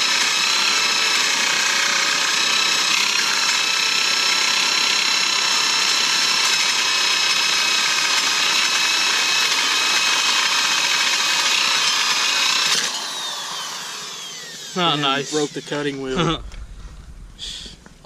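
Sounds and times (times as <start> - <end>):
angle grinder cutting steel: 0.0 - 16.4.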